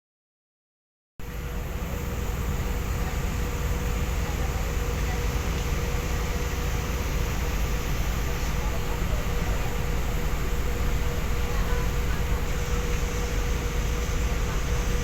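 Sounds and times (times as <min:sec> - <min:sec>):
ship machinery rumble: 0:01.2 - 0:15.0.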